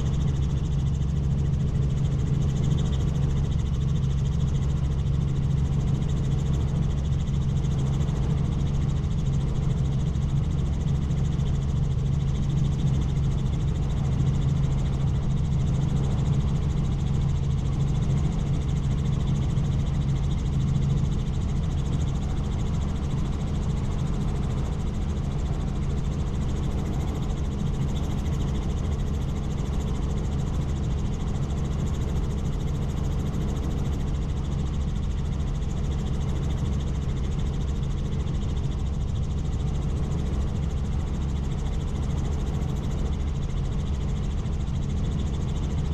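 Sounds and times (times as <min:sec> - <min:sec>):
helicopter rotor and engine drone: 0:00.0 - 0:45.9.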